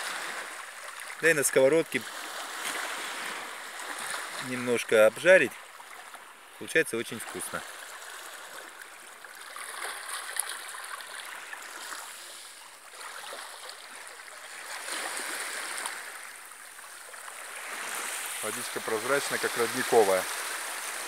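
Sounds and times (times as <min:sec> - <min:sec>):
small waves lapping: 0:00.0 - 0:21.0.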